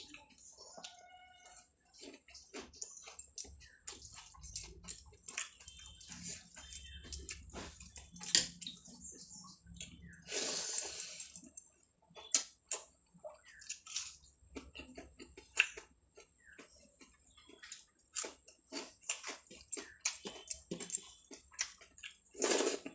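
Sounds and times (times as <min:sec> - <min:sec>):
wet chewing: 0:00.0 - 0:22.9.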